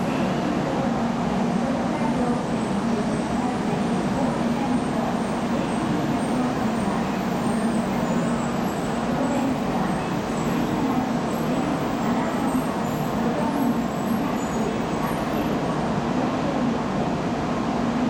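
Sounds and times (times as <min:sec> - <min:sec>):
train humming and rolling: 0:00.0 - 0:18.0.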